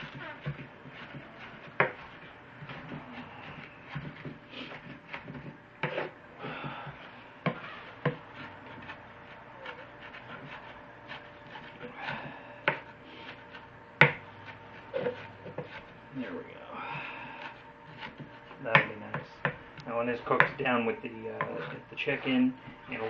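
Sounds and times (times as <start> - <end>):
knife scraping wooden board: 0.0 - 6.2, 7.0 - 16.3, 17.3 - 19.5, 21.4 - 23.0.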